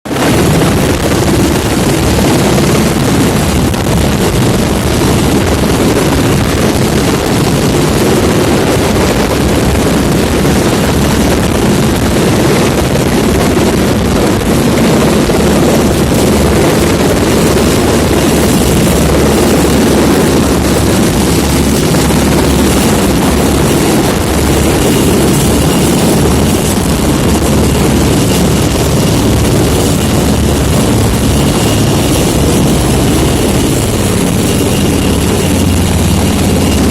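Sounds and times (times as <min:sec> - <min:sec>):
helicopter rotor thrum: 0:00.1 - 0:36.9.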